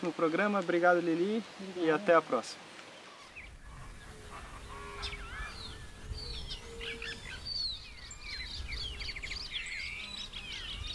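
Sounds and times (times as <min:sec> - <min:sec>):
wild birds calling: 0:00.0 - 0:10.9.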